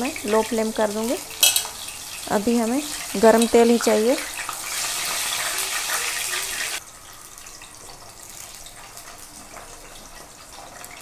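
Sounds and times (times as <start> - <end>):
banana slices sizzling in oil: 0.0 - 11.0.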